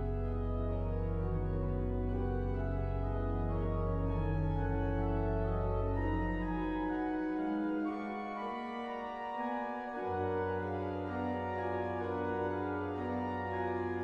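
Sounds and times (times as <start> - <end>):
pipe organ chords: 0.0 - 14.0.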